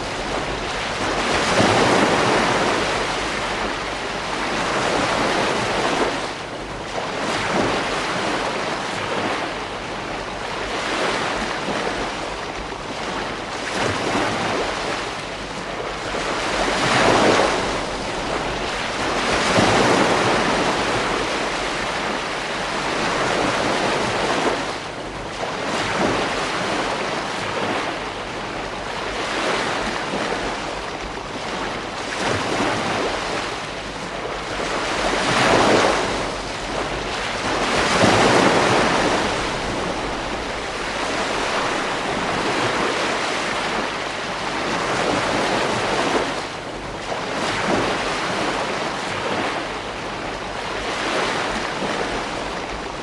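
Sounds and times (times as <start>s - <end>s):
ocean waves breaking: 0.0s - 53.0s
wind on microphone: 0.0s - 53.0s.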